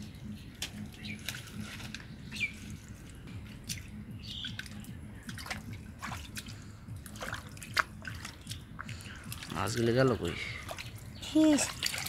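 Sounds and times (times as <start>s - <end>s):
mud squelching and dripping: 0.0s - 12.0s.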